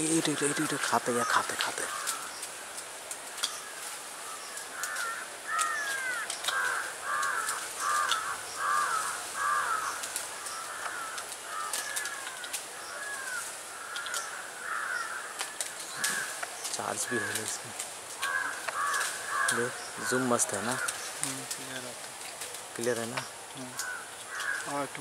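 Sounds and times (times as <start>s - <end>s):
faint high hiss: 0.0s - 25.0s
bird cawing harshly: 0.2s - 2.4s, 3.4s - 21.2s, 23.7s - 24.8s.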